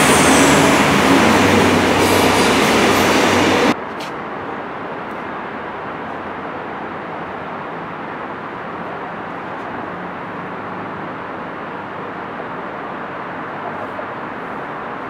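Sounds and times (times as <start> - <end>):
city background hum: 0.0 - 15.0.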